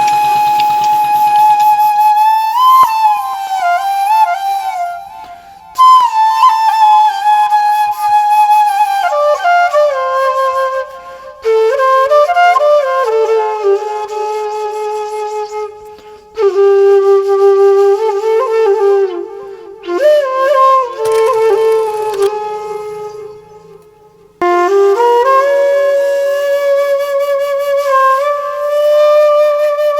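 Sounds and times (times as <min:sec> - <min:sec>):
flute-like woodwind melody: 0:00.0 - 0:29.9.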